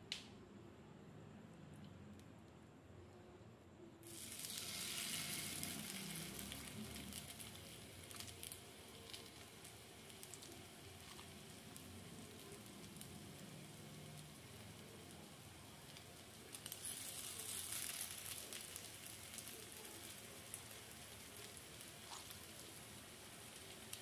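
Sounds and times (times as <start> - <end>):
fritter sizzling in oil: 4.0 - 24.0.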